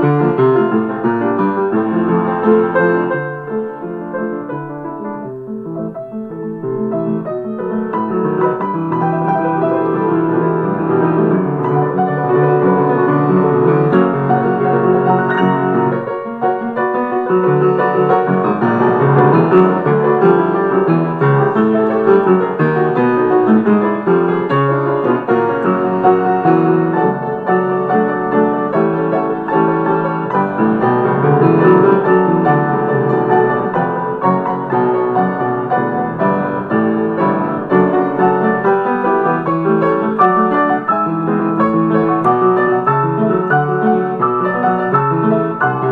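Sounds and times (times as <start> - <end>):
piano music in quick runs: 0.0 - 45.9.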